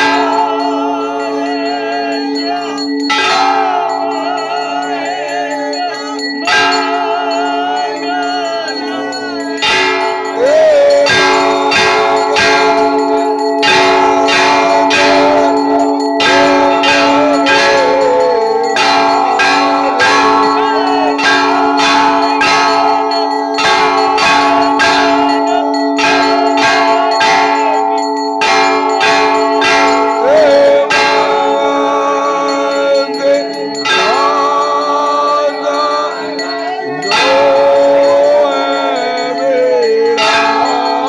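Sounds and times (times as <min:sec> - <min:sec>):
metal bells clanging: 0:00.0 - 0:41.0.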